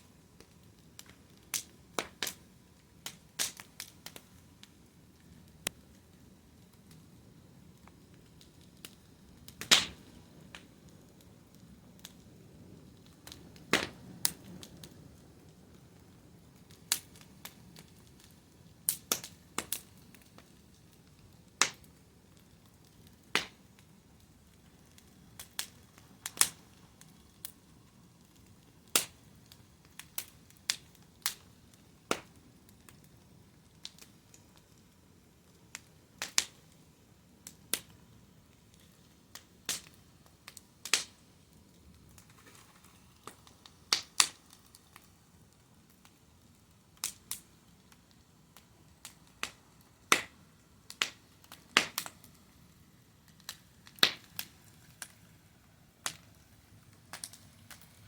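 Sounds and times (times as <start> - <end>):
faint hiss of burning: 0.0 - 58.0
wood fire crackling and popping: 0.0 - 58.0.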